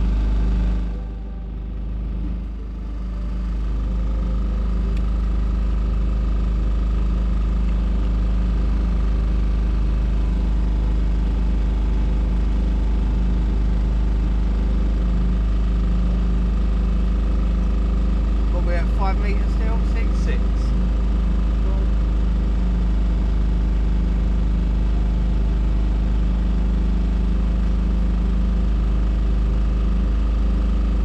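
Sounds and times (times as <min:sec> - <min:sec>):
boat motor droning: 0:00.0 - 0:31.0.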